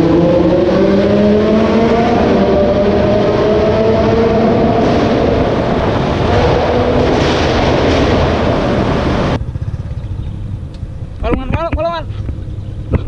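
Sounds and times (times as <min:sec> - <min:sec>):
car engine roaring at full throttle: 0:00.0 - 0:13.0
pulsing engine rumble: 0:00.0 - 0:13.0.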